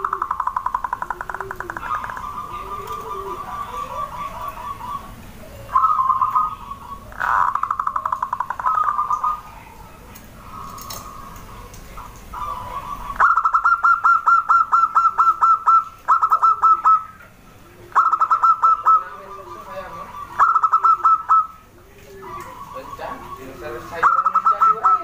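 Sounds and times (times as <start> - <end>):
dove trilling: 0.0 - 25.0
soft low dove coos: 0.0 - 25.0.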